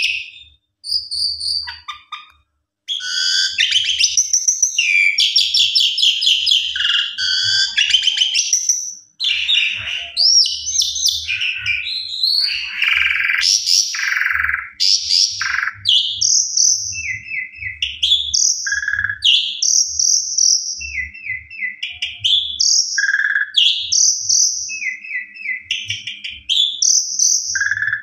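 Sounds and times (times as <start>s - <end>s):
starling whistling song: 0.0s - 2.3s, 2.9s - 28.0s.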